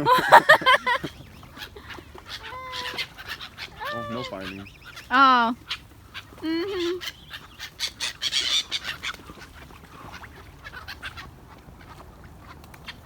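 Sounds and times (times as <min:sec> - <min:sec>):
waterfowl squabbling calls: 0:00.0 - 0:13.0.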